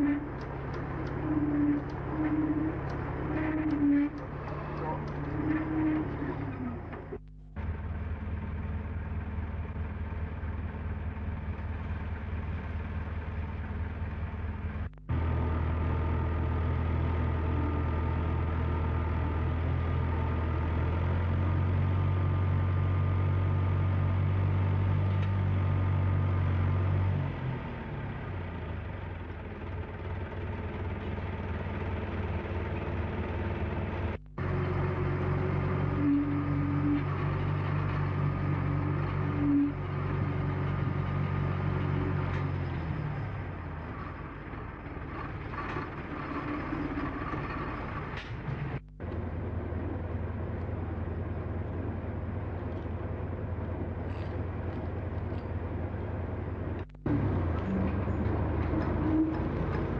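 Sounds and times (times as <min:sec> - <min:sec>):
winch engine running: 0:00.0 - 0:27.1, 0:27.9 - 0:59.9.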